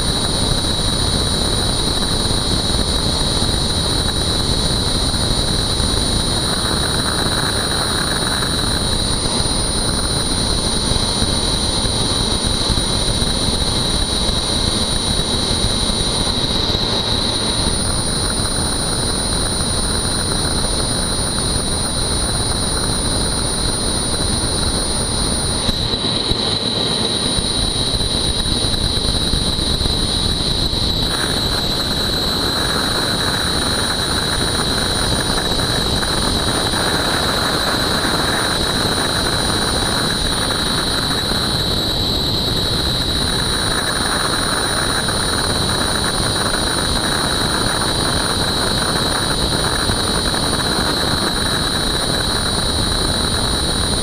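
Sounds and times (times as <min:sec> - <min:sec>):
helicopter engine and rotor: 0:00.0 - 0:54.0
high whine: 0:00.0 - 0:54.0.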